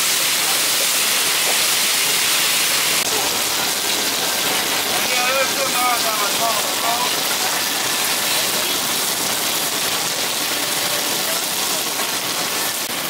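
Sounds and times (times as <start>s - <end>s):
chicken sizzling on griddle: 0.0s - 13.0s.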